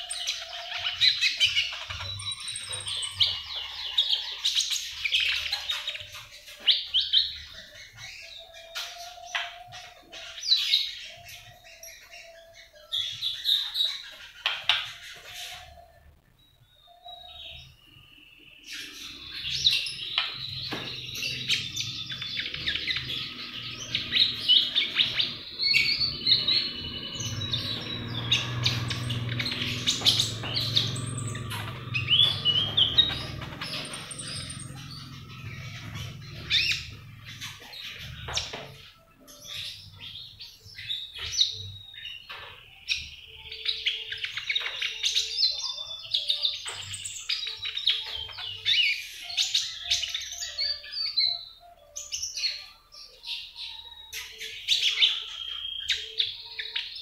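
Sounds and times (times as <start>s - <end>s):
songbird twittering: 0.0s - 57.0s.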